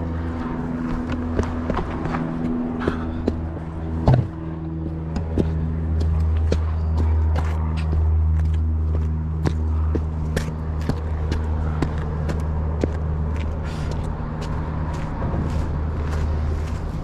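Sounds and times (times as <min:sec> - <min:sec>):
steady low rumble: 0:00.0 - 0:17.0
footsteps on rock and gravel: 0:00.7 - 0:17.0.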